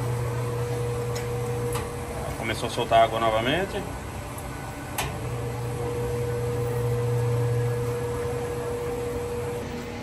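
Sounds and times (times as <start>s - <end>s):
washing machine electric hum: 0.0s - 10.0s.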